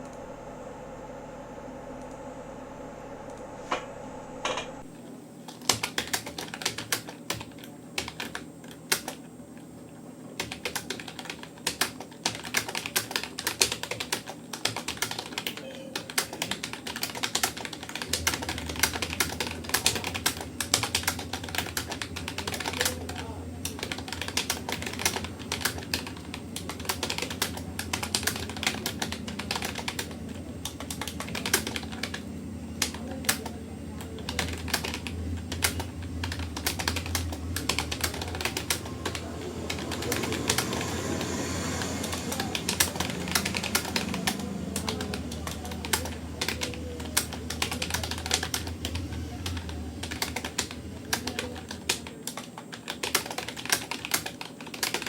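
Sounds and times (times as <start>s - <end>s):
low steady hum: 0.0s - 55.0s
fast typing on a keyboard: 5.5s - 9.3s, 10.4s - 55.0s.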